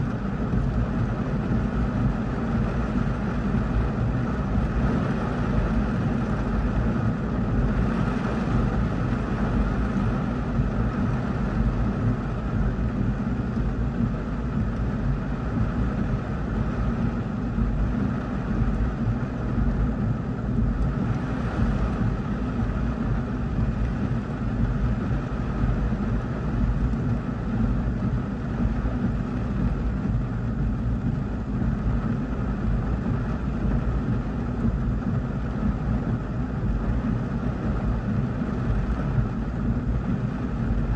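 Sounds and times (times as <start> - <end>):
heavy rain on car roof: 0.0 - 40.9.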